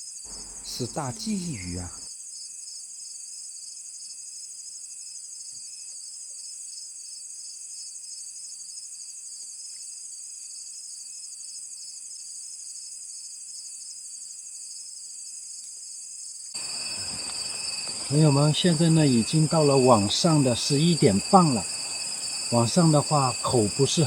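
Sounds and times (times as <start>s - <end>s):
crickets and insects trilling: 0.0s - 24.0s.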